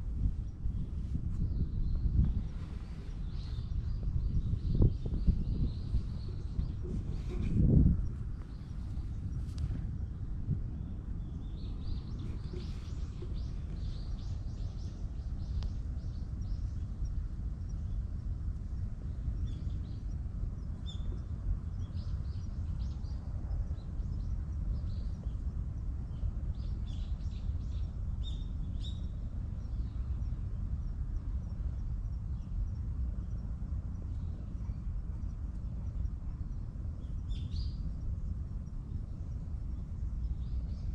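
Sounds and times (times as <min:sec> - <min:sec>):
low outdoor rumble: 0:00.0 - 0:40.9
small birds chirping: 0:00.3 - 0:40.9.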